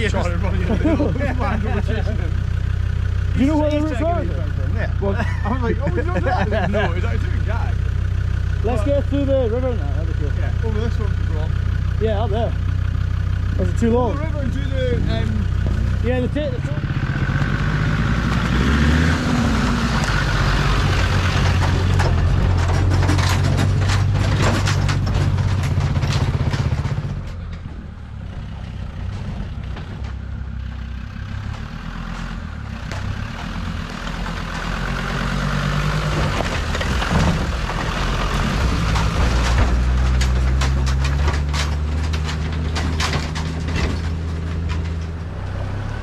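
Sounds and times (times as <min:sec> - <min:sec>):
off-road vehicle engine: 0:00.0 - 0:46.0.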